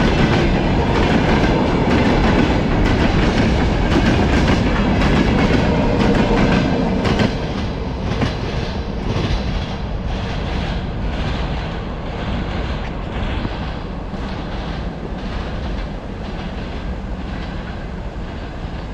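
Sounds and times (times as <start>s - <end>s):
freight train wagons rumbling: 0.0s - 18.9s
train wheel clicks: 0.0s - 18.9s.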